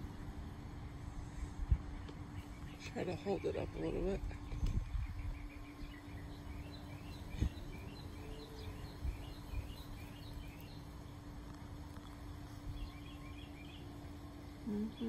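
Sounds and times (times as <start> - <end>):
faint steady hum: 0.0 - 15.0
low outdoor rumble: 0.0 - 15.0
small birds chirping: 0.8 - 15.0.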